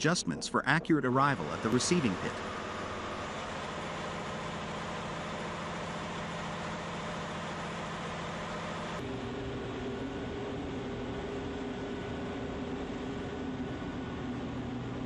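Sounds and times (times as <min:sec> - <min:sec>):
heavy machinery engine drone: 0:00.0 - 0:15.0.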